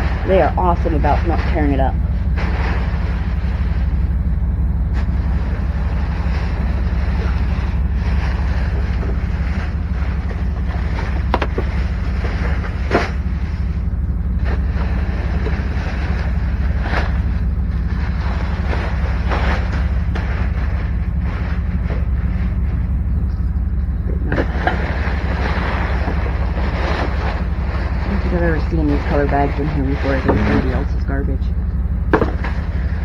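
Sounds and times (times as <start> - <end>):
low engine-like rumble: 0.0 - 33.0
rustles: 0.0 - 33.0.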